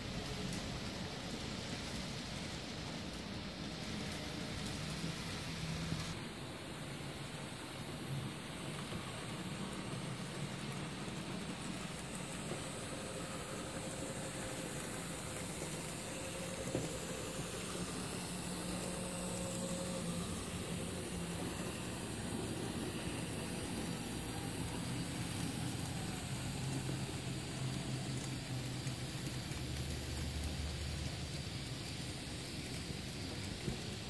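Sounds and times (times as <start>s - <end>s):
model locomotive humming on track: 0.0s - 34.0s.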